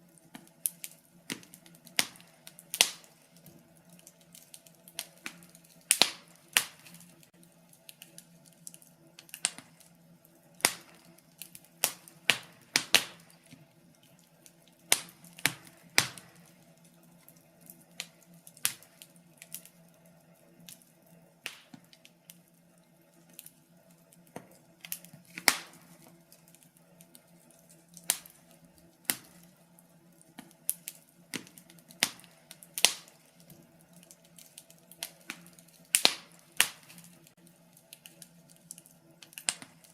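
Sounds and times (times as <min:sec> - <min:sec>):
faint steady hiss: 0:00.0 - 0:39.9
wood fire crackling: 0:00.0 - 0:39.9.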